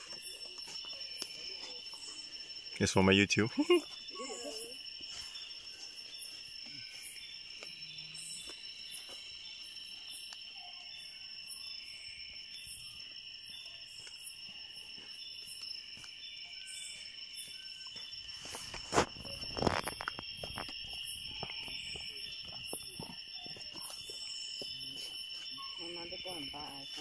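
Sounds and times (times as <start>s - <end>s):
high insect chirps: 0.0s - 27.0s
insects trilling: 0.0s - 27.0s.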